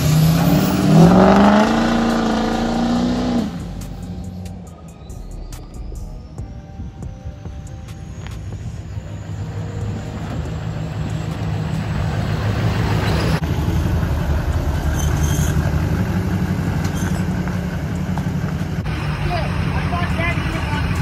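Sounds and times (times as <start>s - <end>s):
diesel truck engine rumble: 0.0s - 21.0s
diesel truck engines idling: 0.0s - 21.0s.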